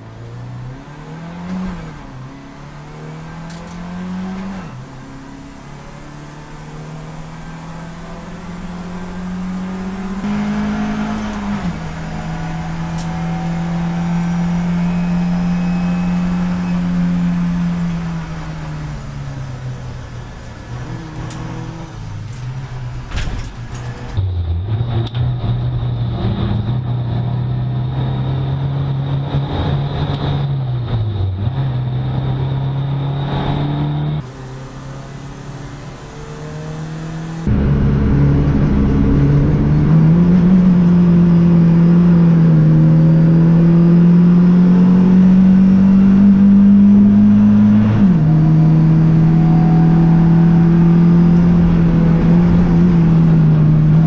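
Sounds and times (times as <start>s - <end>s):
car engine at steady revs: 0.0s - 24.4s, 26.0s - 54.0s
race car engine accelerating: 0.0s - 54.0s.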